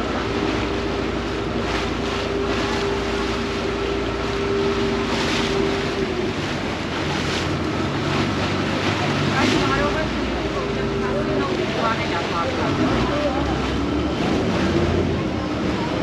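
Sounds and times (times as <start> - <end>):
boat engine humming: 0.0 - 16.0
water rushing past hull: 0.0 - 16.0.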